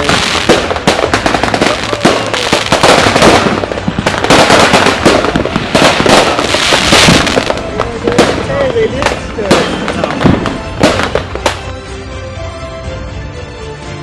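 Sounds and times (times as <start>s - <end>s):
fireworks bursting with bangs: 0.0s - 11.8s
fireworks crackling: 0.0s - 11.8s.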